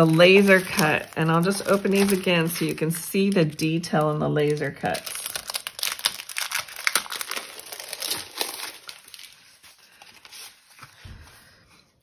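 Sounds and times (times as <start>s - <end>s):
plastic sleeve crinkling: 0.0s - 11.2s.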